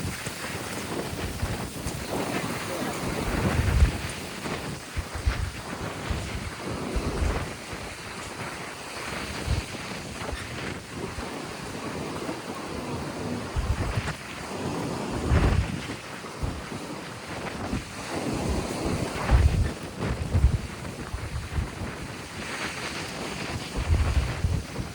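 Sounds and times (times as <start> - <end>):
surf breaking on shore: 0.0 - 24.9
wind buffeting microphone: 0.0 - 24.9.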